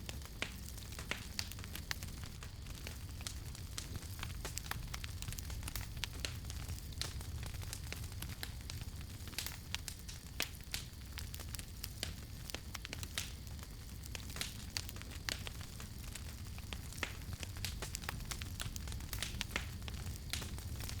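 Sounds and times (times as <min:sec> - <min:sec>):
campfire crackling and popping: 0:00.0 - 0:21.0
low rumble of flames: 0:00.0 - 0:21.0.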